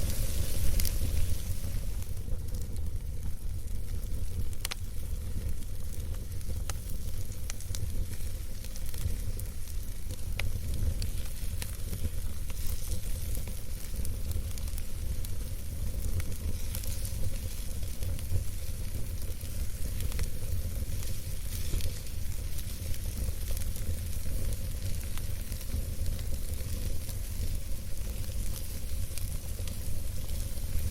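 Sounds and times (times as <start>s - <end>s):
campfire crackles and pops: 0.0s - 30.9s
fire hiss and low rumble: 0.0s - 30.9s.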